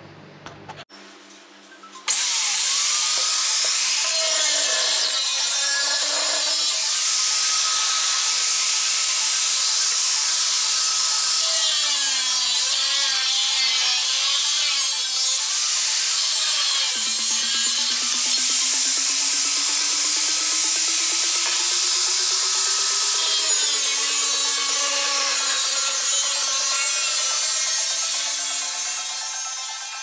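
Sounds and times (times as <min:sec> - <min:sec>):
angle grinder cutting steel: 0:02.0 - 0:30.0.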